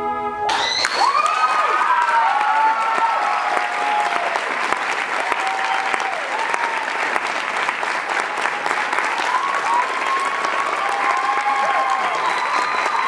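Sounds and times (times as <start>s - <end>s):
whoops from audience: 0.5s - 4.5s, 5.2s - 7.1s, 8.5s - 13.0s
audience applauding and cheering: 0.5s - 13.0s.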